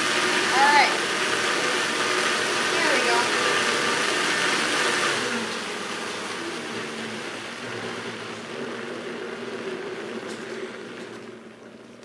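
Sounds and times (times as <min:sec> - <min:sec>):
blender motor churning: 0:00.0 - 0:12.0.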